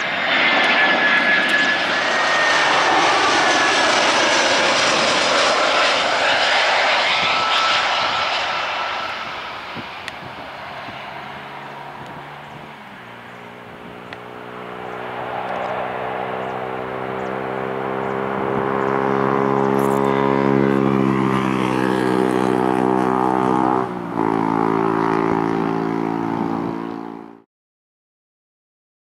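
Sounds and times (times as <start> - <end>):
jet engines roaring: 0.0 - 27.4.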